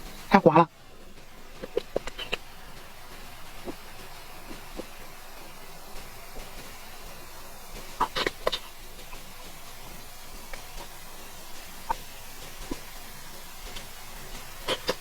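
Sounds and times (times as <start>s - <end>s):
steady hiss: 0.0s - 15.0s
wet chewing mouth sounds: 0.0s - 15.0s.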